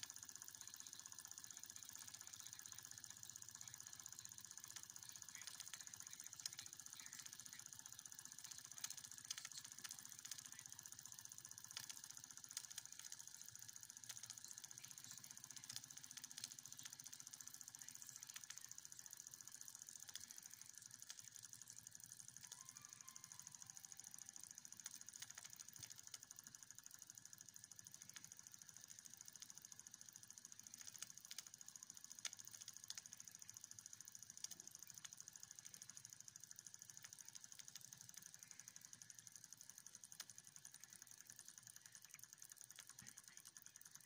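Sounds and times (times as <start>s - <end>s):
miniature steam engine ticking: 0.0s - 44.0s.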